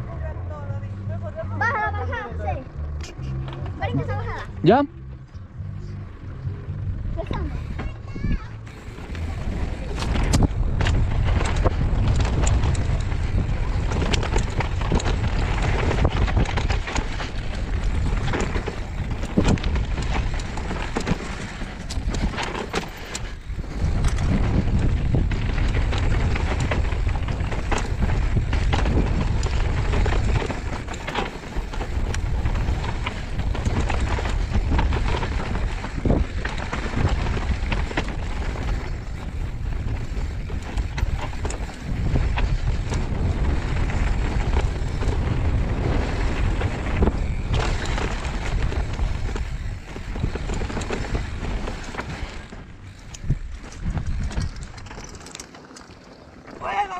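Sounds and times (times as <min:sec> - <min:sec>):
bike rattling over rough trail: 0:00.0 - 0:56.9
wind buffeting microphone: 0:05.4 - 0:55.4.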